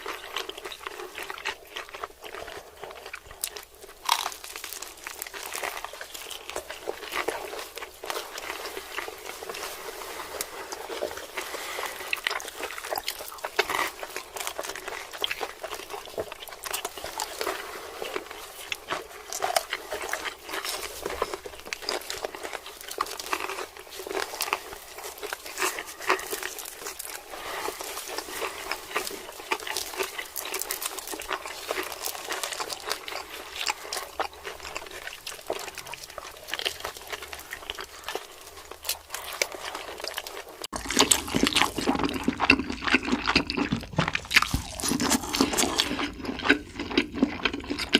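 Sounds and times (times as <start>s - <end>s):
chewing with mouth clicks: 0.0s - 47.9s.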